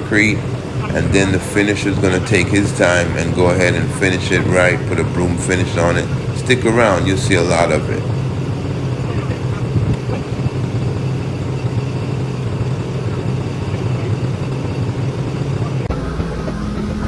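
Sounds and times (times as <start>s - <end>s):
concrete truck engine running: 0.0s - 17.0s
higher steady hum: 0.0s - 17.0s.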